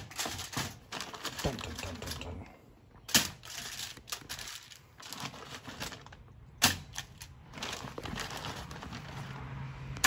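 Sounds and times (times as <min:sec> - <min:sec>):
aluminum foil crinkling: 0:00.0 - 0:02.3, 0:03.1 - 0:09.4.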